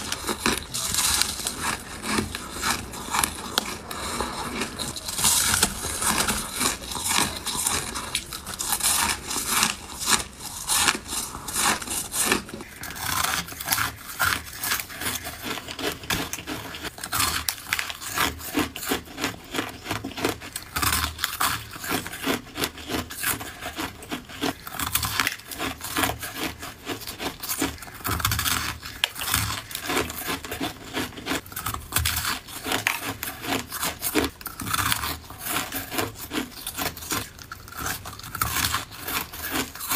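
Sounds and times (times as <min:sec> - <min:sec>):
ice crunching and chewing: 0:00.0 - 0:39.9.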